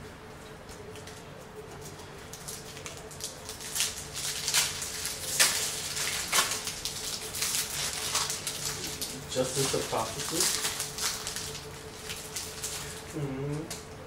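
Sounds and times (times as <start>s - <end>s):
card wrappers crinkling and rustling: 0.4s - 13.8s.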